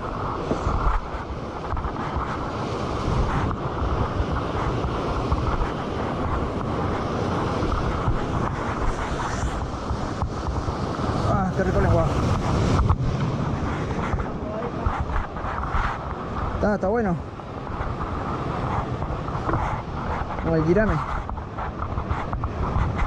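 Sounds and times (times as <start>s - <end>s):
waves breaking on rocks: 0.0s - 23.0s
wind buffeting microphone: 0.0s - 23.0s.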